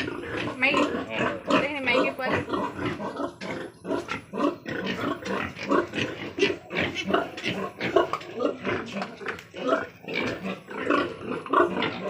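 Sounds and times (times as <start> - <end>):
young pigs grunting: 0.0 - 12.0.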